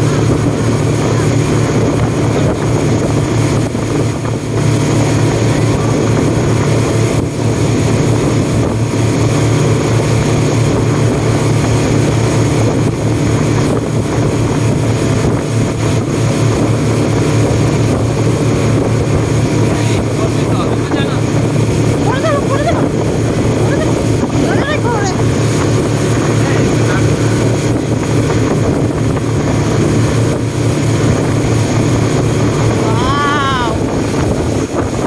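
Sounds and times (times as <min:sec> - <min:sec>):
speedboat engine droning: 0:00.0 - 0:35.0
wind rushing: 0:00.0 - 0:35.0.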